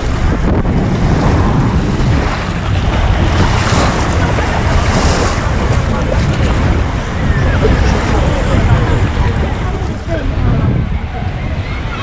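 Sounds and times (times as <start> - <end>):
sea rushing: 0.0 - 12.0
wind buffeting microphone: 0.0 - 12.0.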